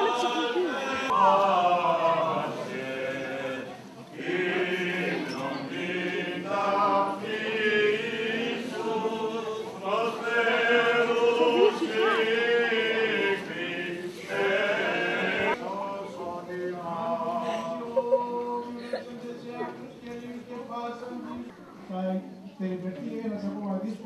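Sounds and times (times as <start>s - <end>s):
men chanting: 0.0s - 19.7s.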